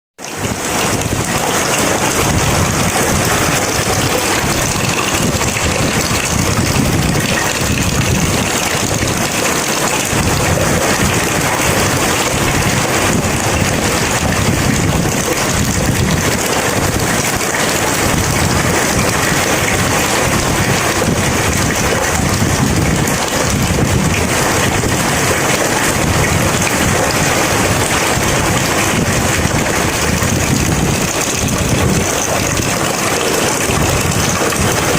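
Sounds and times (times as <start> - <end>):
heavy rain falling: 0.2 - 34.9
thunder rumbling: 0.2 - 34.9.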